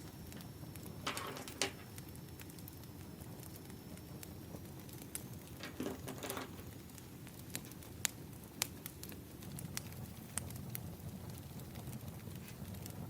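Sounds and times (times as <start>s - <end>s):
sharp pops and snaps of fire: 0.0s - 13.0s
wood fire crackling: 0.0s - 13.0s.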